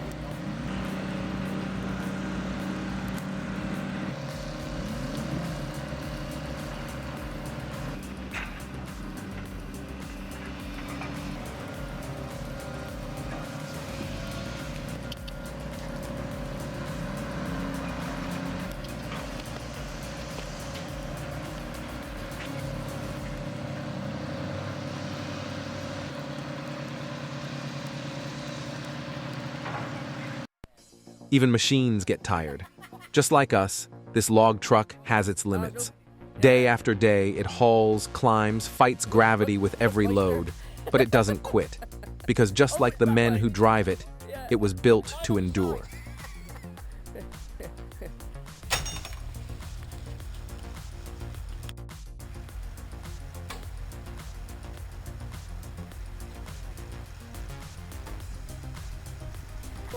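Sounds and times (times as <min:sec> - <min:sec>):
excavator engine revving: 0:00.0 - 0:30.5, 0:38.6 - 0:59.9.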